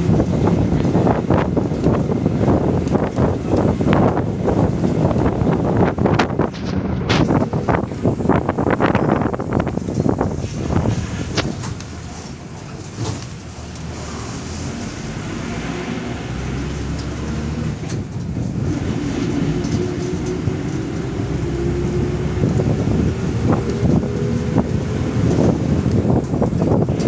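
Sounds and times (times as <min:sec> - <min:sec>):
vehicle engine and road noise: 0:00.0 - 0:27.0.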